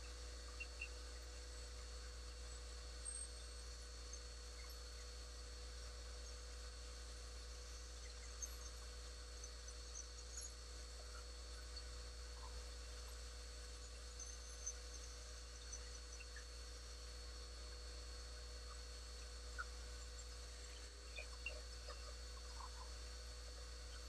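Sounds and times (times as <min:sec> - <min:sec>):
faint low hum with thin tones: 0:00.0 - 0:24.0.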